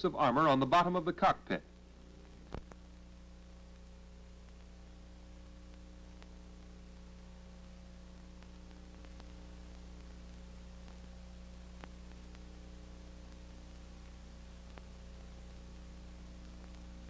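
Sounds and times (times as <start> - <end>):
film soundtrack hum and hiss: 0.0 - 17.0
crackle ticks: 1.6 - 17.0.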